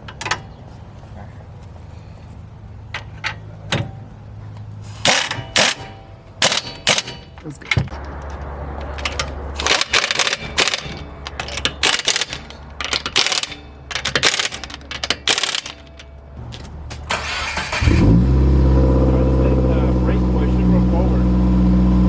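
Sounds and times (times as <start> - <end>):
car engine starting and idling: 2.8 - 22.0.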